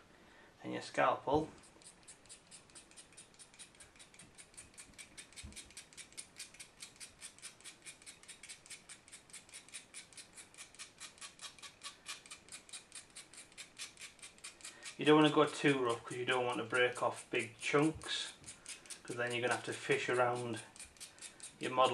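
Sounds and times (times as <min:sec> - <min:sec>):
blade scraping chalk: 0:01.4 - 0:21.9.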